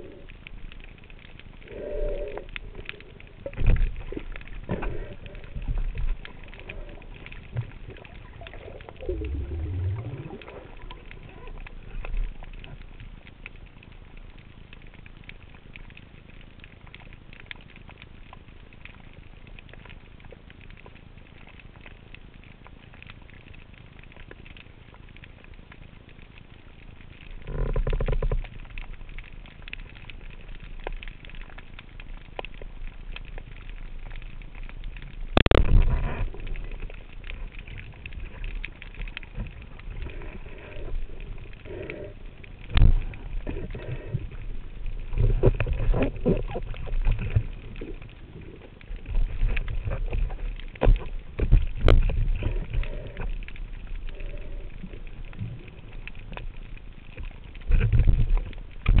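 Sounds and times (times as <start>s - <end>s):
muffled underwater hiss and rumble: 0.0s - 59.0s.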